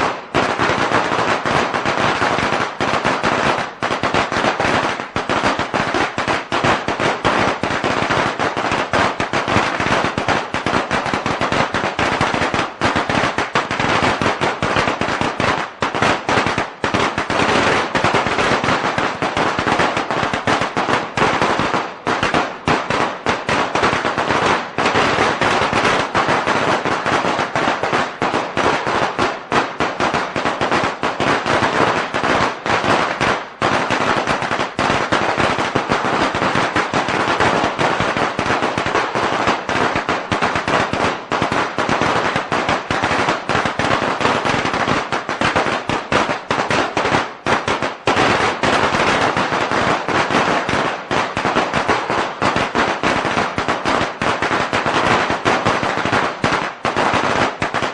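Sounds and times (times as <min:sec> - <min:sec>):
firecrackers crackling: 0:00.0 - 0:57.9.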